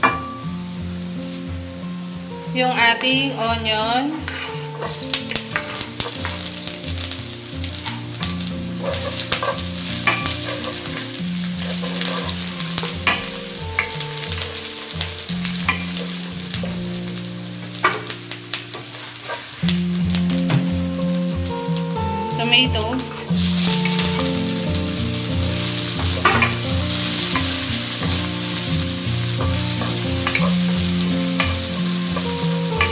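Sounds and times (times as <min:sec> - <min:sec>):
onion and garlic sizzling in oil: 0:00.0 - 0:32.9
spatula scraping and tapping pan: 0:04.2 - 0:20.8, 0:23.1 - 0:32.9.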